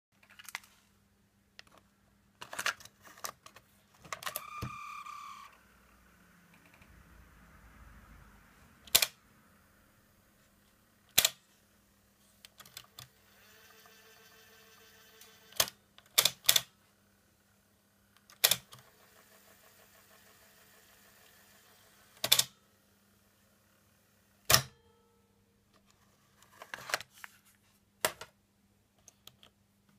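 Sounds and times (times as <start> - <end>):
faint steady hum: 0.2 - 29.9.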